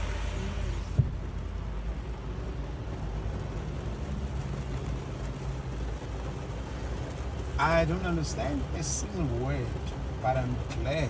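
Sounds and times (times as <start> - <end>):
heavy rain on a car: 0.0 - 11.0
low steady car hum: 0.0 - 11.0.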